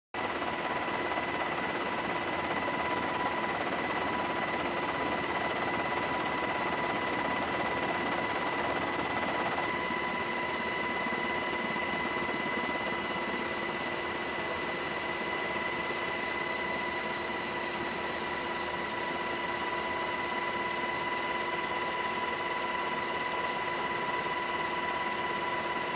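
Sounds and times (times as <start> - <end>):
aircraft engine drone: 0.2 - 23.6.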